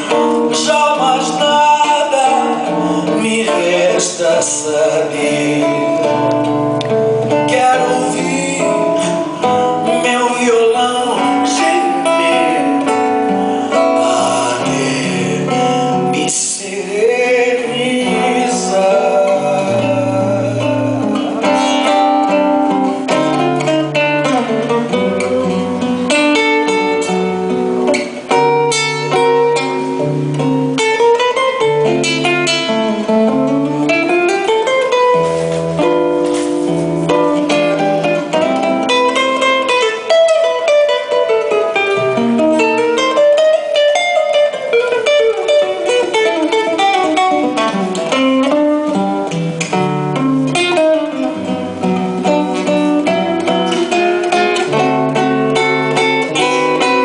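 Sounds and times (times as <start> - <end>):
classical guitar playing: 0.0 - 57.0.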